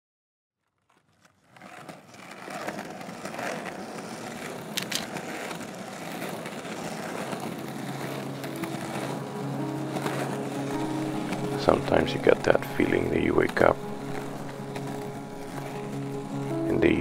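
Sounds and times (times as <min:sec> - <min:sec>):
skateboard wheels rolling on concrete: 0:00.6 - 0:17.0.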